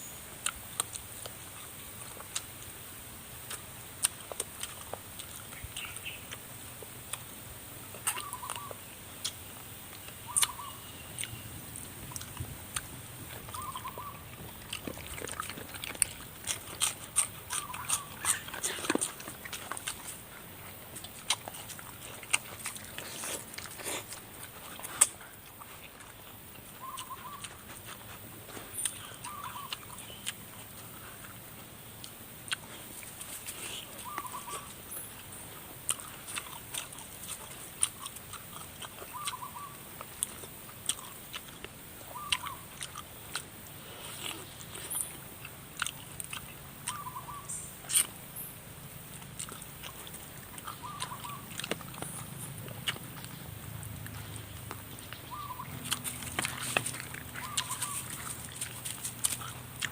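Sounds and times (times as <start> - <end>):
close-up chewing and biting: 0.4 - 59.9.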